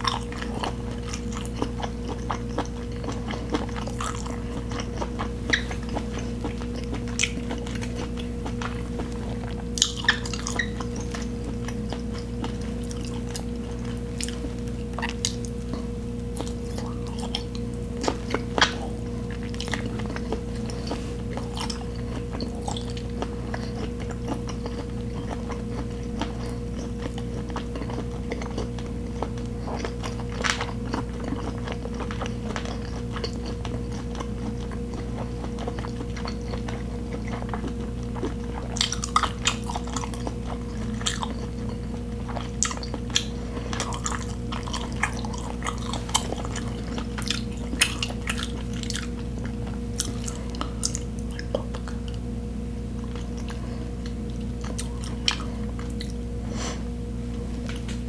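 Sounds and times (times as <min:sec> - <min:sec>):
chewing and biting: 0:00.0 - 0:52.2, 0:53.0 - 0:56.2.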